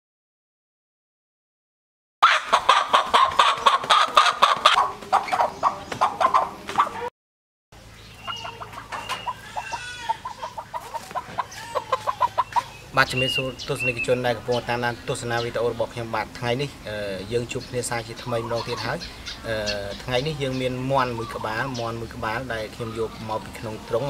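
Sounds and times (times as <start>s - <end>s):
chickens clucking and squawking: 2.2s - 7.1s, 7.8s - 24.0s.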